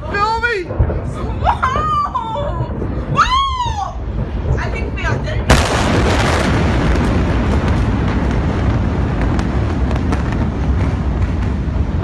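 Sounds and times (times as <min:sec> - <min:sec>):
rumble of large fire: 0:00.0 - 0:12.0
sharp pops and crackles of blasts: 0:00.5 - 0:12.0.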